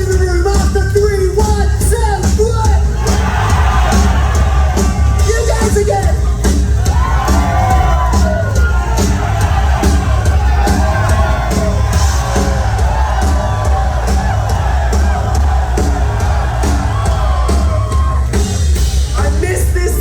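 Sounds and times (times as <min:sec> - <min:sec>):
drum kit beat: 0:00.0 - 0:20.0
rock band playing live: 0:00.0 - 0:20.0.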